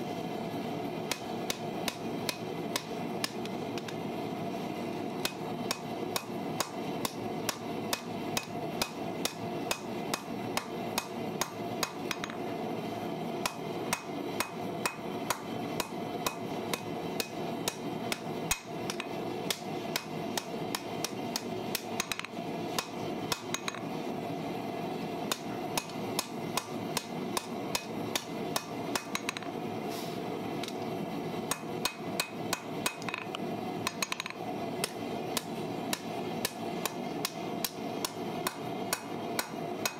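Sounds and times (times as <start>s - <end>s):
steady background hum: 0.0s - 39.9s
hammer striking hot steel on anvil: 1.1s - 4.0s, 5.2s - 12.4s, 13.4s - 23.9s, 25.3s - 29.6s, 31.5s - 39.9s.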